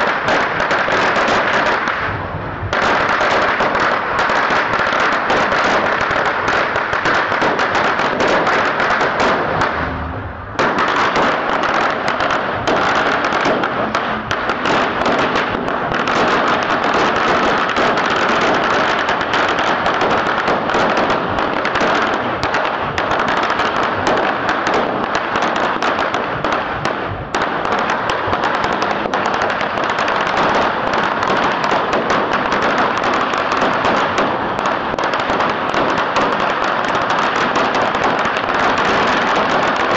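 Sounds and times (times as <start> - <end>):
string of firecrackers crackling: 0.0 - 39.9.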